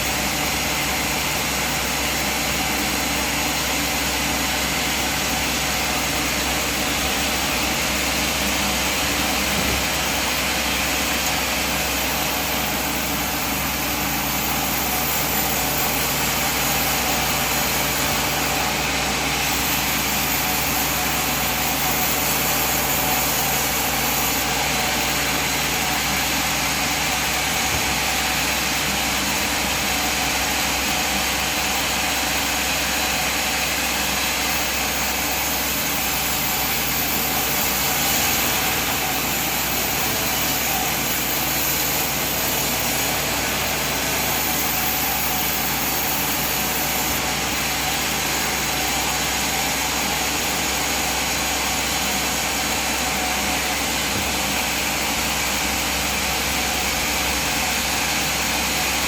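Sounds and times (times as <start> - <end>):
sawmill machine running: 0.0 - 59.0.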